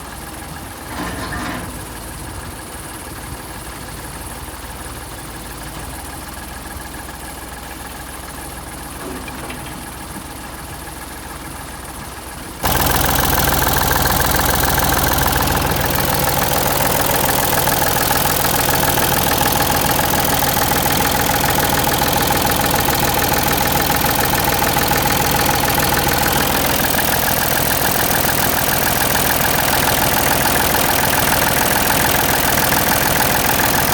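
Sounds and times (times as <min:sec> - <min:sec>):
diesel engine idling: 0:01.8 - 0:09.0, 0:09.6 - 0:33.9.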